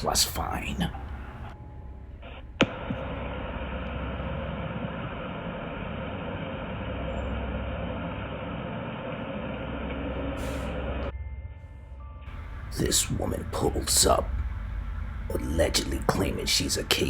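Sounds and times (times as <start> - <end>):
outdoor rumble and hiss: 0.0 - 11.1, 12.3 - 17.0.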